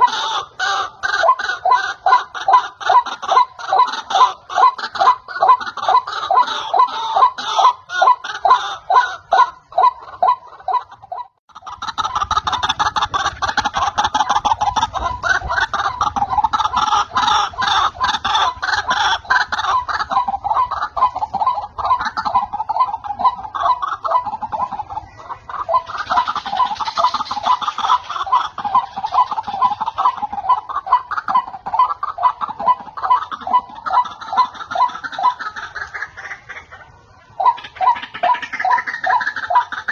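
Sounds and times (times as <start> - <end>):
bird clucking call: 0.0 - 39.9.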